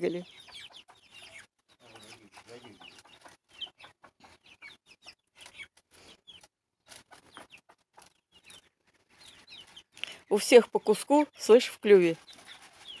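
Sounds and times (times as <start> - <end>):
chicks peeping: 0.0 - 13.0
hens clucking: 0.1 - 10.7.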